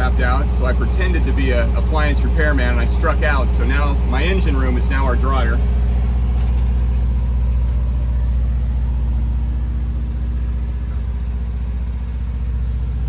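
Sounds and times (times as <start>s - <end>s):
diesel generator humming: 0.0s - 13.0s.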